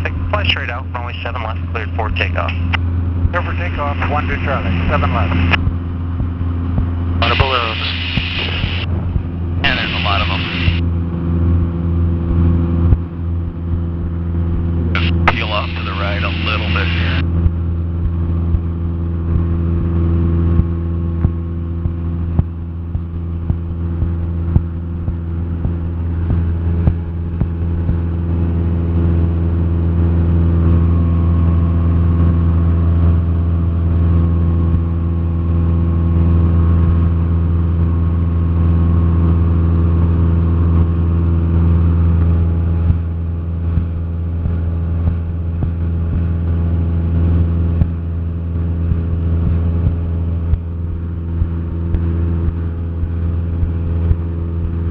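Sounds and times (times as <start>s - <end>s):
aircraft engine drone in cabin: 0.0s - 54.9s.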